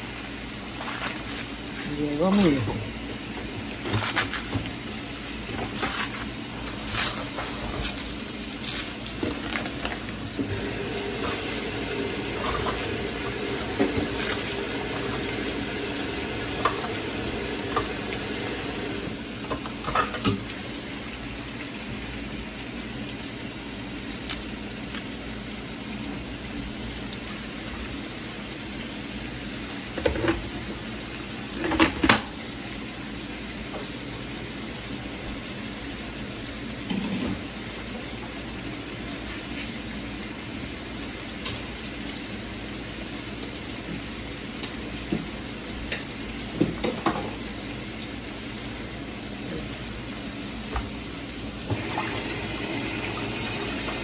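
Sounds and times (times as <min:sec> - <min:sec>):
meat sizzling in a skillet: 0:00.0 - 0:54.0.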